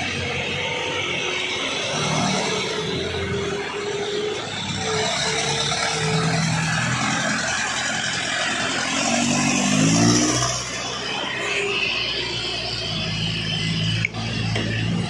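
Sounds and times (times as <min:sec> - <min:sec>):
truck diesel engine revving uphill: 0:00.0 - 0:15.0.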